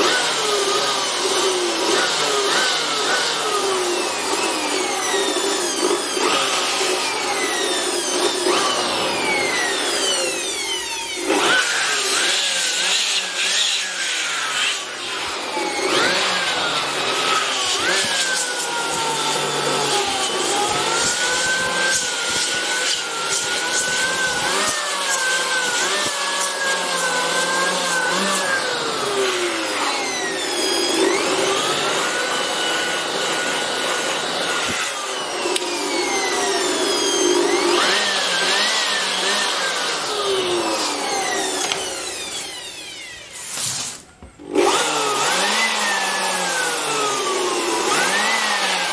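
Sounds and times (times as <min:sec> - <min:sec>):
electric air blower whining: 0:00.0 - 0:48.9.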